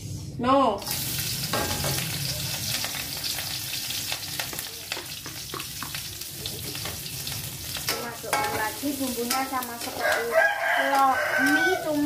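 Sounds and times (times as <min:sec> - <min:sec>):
food sizzling in oil: 0:00.8 - 0:12.0.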